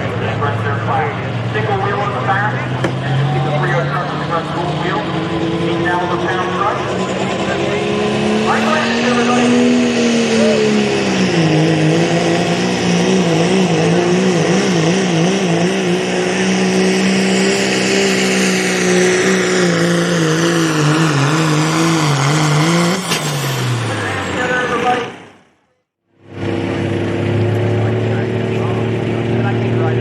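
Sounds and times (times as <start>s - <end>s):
diesel truck engine at high revs: 0.0s - 30.0s.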